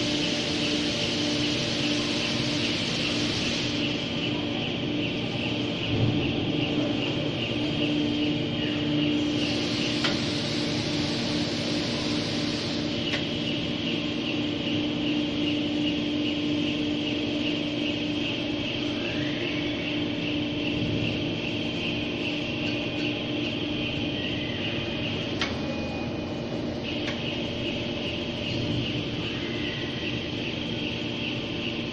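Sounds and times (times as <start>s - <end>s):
rail cart motor humming: 0.0s - 31.9s.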